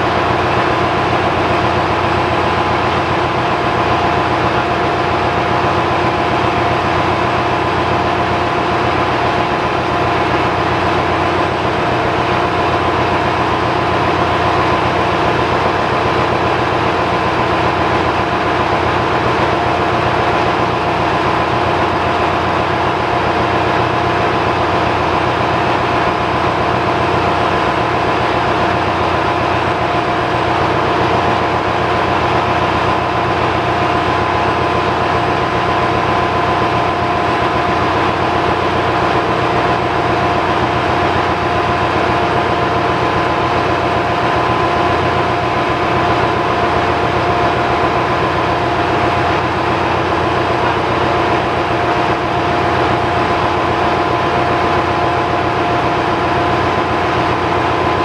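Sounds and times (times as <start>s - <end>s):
engine room machinery drone: 0.0s - 58.0s.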